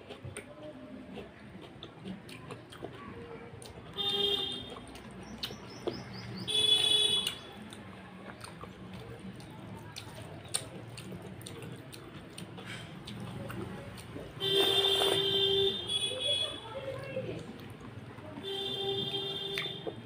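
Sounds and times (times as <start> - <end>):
chewing: 0.0 - 6.4, 7.1 - 15.4, 16.9 - 18.4.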